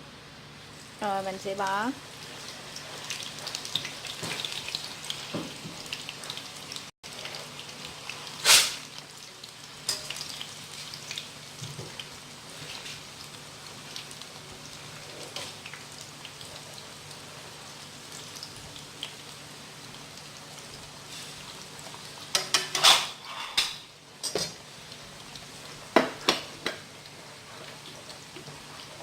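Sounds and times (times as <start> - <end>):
food frying in hot oil: 0.1 - 29.0
loud sizzle or clatter: 0.6 - 29.0.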